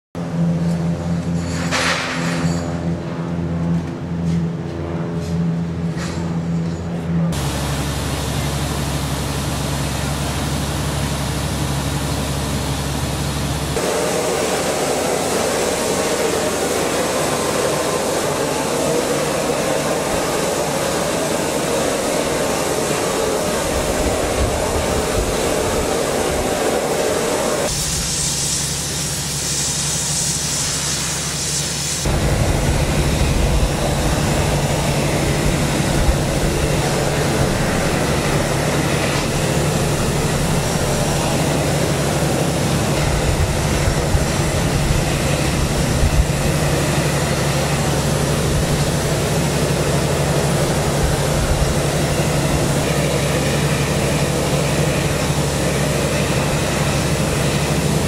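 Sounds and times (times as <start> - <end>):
low hum: 0.2 - 27.9, 32.0 - 57.9
flame-spray gun rushing: 7.3 - 58.0.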